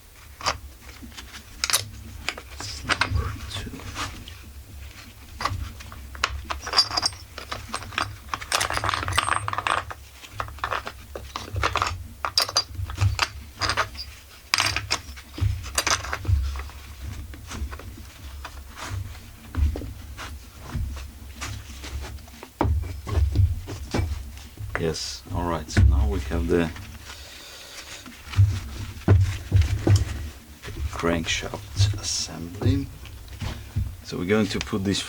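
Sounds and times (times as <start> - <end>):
rustling: 0.0 - 35.0.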